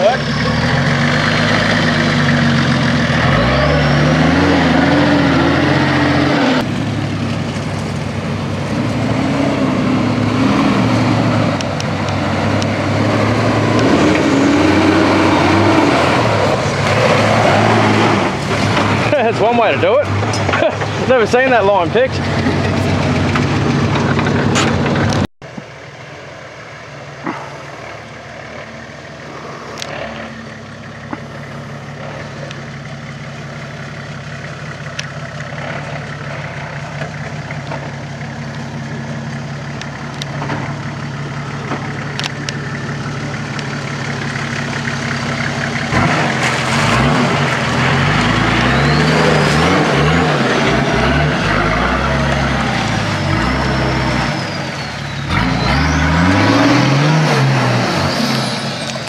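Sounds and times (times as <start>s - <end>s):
vehicle engine running and revving: 0.0s - 25.8s, 27.2s - 59.0s.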